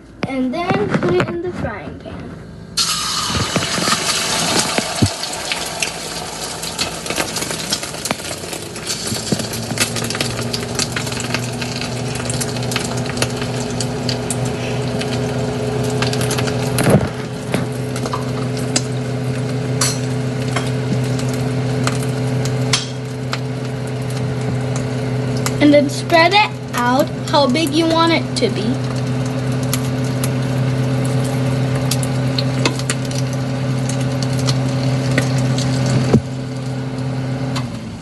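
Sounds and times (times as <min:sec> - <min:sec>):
steady low hum: 0:00.0 - 0:38.0
eggs sizzling in oil: 0:02.8 - 0:37.8.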